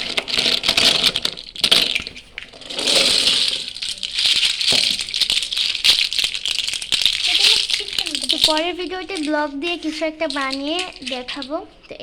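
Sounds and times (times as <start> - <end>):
toy blocks rattling: 0.0 - 12.0.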